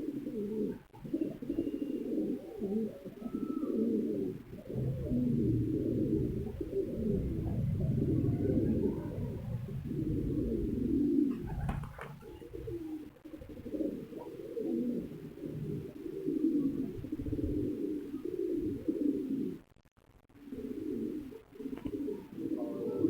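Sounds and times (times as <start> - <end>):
pigeons cooing: 0.0 - 19.7, 20.4 - 23.0.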